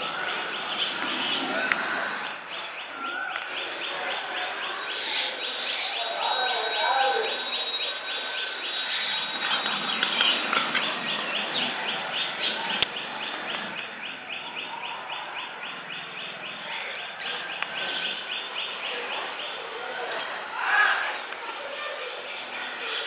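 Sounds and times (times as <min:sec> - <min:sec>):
ambient noise: 0:00.0 - 0:23.0
other birds: 0:00.0 - 0:23.0.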